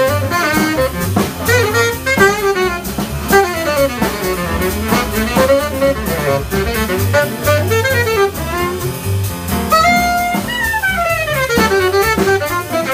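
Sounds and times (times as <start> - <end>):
saxophone melody: 0.0 - 8.9, 9.7 - 12.9
double bass: 0.0 - 12.9
drums with cymbal strikes: 0.0 - 12.9.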